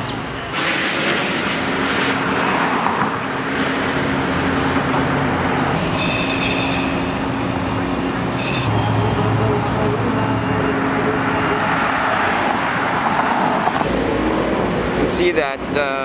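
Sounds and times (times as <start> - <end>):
engine drone: 0.0 - 16.0
high whine: 0.0 - 16.0.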